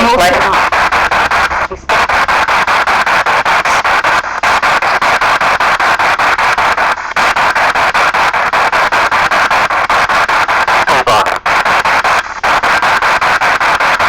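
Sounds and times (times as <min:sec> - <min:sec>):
radio static hiss chopped: 0:00.0 - 0:14.0.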